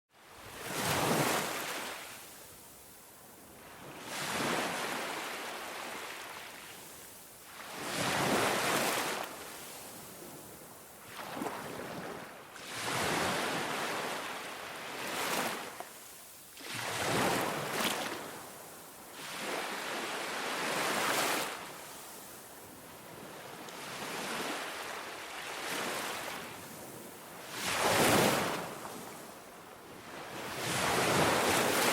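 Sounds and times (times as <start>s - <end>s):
ocean surf breaking on beach: 3.7s - 29.4s, 30.0s - 31.9s.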